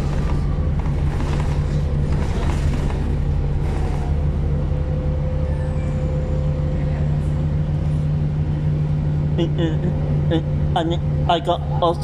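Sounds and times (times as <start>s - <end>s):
bus engine low drone: 0.0s - 12.0s.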